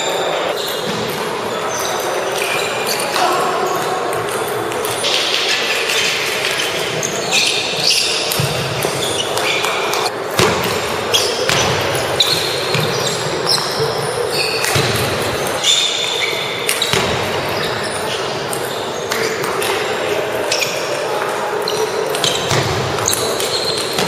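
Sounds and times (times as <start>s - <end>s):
murmur of voices: 0.0s - 24.0s
sneakers squeaking on wooden floor: 0.0s - 24.0s.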